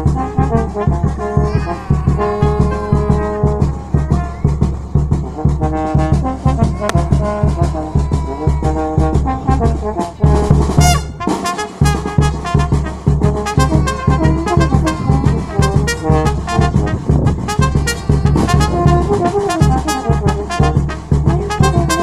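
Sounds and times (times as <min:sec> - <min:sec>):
bass drum beaten with mallet: 0:00.0 - 0:22.0
brass band playing: 0:00.0 - 0:22.0.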